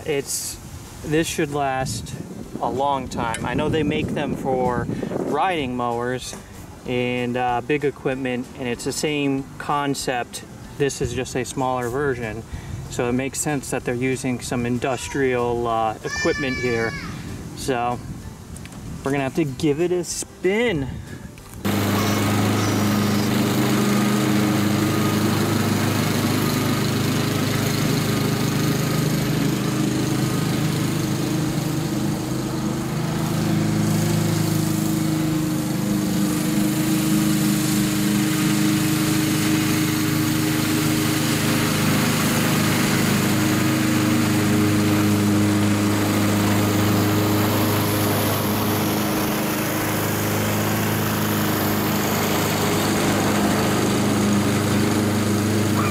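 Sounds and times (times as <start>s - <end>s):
lawn mower running: 0.0s - 20.8s, 21.4s - 55.9s.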